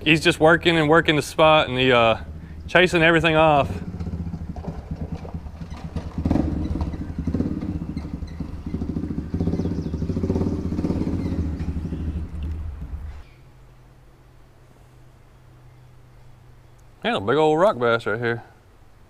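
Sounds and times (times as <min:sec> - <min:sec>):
traffic rumble under a bridge: 0:00.0 - 0:19.0.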